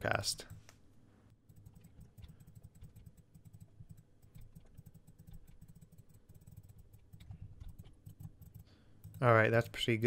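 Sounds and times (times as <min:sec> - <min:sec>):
computer keys clicking: 0:01.4 - 0:09.8.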